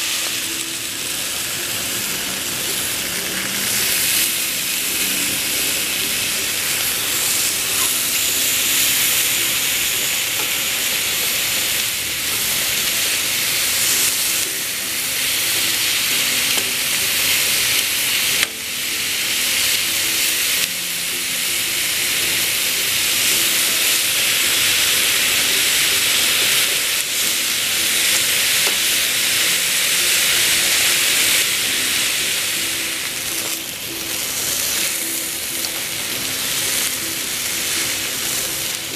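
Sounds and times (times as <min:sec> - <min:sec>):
chicken sizzling on grill: 0:00.0 - 0:38.9.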